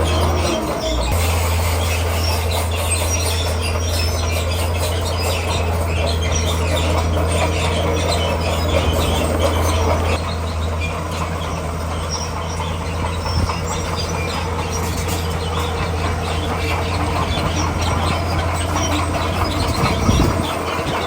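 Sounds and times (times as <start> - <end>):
bulldozer diesel engine droning: 0.0 - 21.0
steel tracks squealing and clanking: 0.0 - 21.0.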